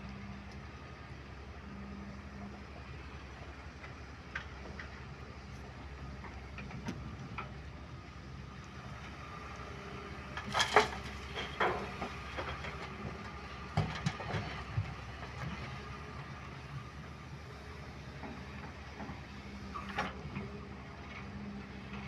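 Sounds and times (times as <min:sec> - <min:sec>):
excavator diesel engine humming: 0:00.0 - 0:22.0.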